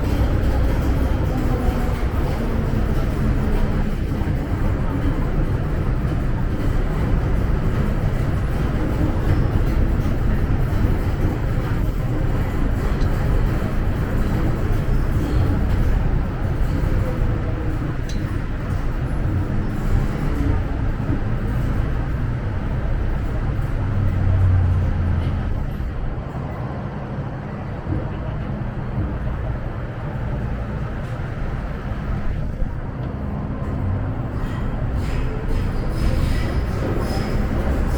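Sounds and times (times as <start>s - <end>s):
faint constant hum: 0.0s - 37.9s
train wheels rumbling on rail: 0.0s - 37.9s.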